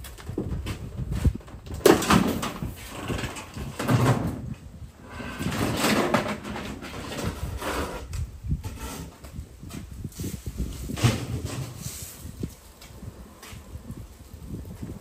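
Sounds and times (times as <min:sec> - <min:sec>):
wood creaking and scraping: 0:00.0 - 0:15.0.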